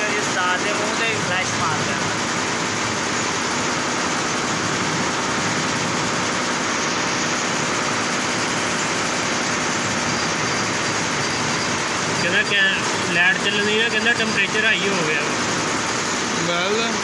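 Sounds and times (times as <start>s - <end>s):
steady mechanical running noise: 0.0s - 17.0s.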